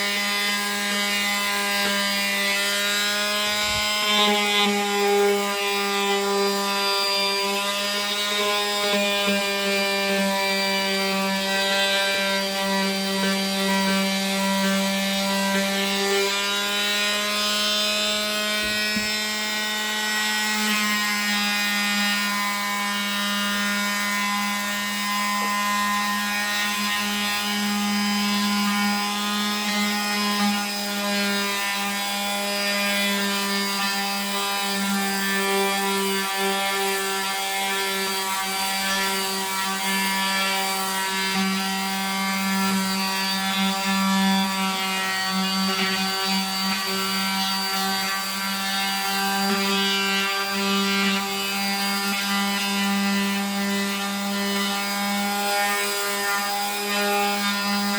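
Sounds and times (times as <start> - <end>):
oscillating multi-tool on wood: 0.0 - 57.9.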